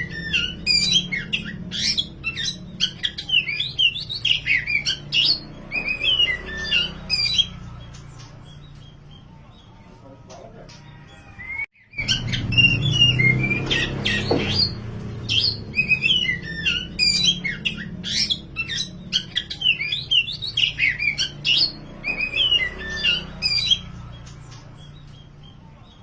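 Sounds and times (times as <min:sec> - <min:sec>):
bird singing: 0:00.0 - 0:26.0.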